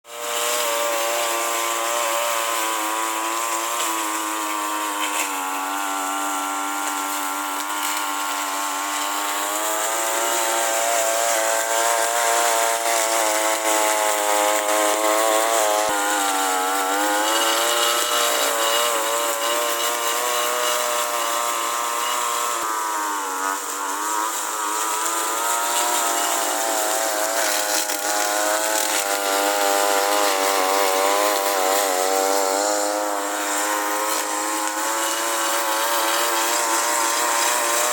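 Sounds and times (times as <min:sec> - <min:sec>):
lawn mower engine running: 0:00.0 - 0:37.9.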